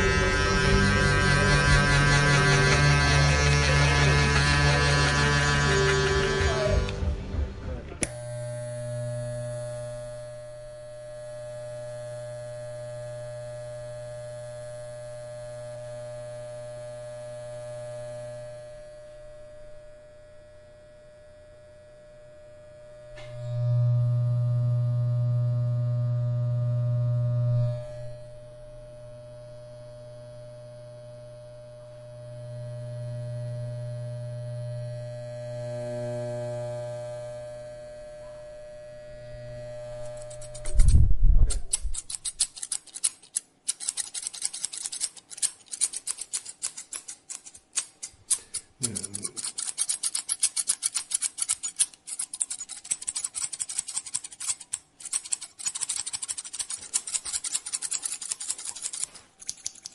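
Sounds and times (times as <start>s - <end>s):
electric hair clippers buzzing: 0.0s - 59.1s.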